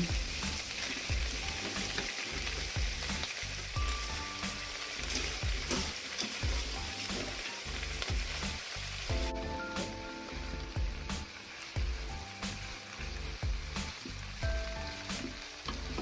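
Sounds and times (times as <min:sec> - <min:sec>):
low regular beat: 0:00.0 - 0:04.8, 0:05.4 - 0:07.4, 0:08.0 - 0:16.0
vegetables sizzling in hot oil: 0:00.0 - 0:16.0.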